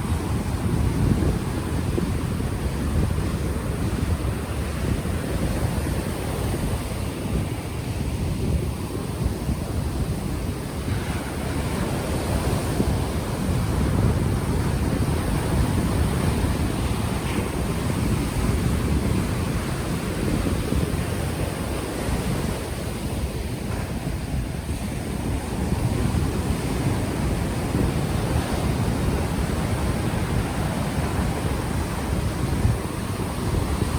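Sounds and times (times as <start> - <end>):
ocean waves breaking: 0.0 - 33.9
wind buffeting microphone: 0.0 - 33.9.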